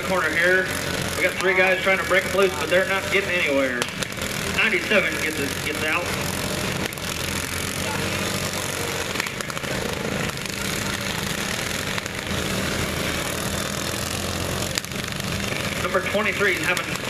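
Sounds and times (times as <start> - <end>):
riding lawn mower engines straining: 0.0 - 17.0.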